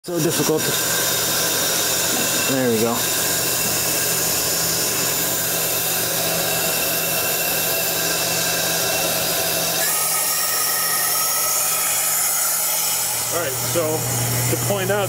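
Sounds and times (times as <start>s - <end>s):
industrial machine hum and hiss: 0.0s - 15.0s.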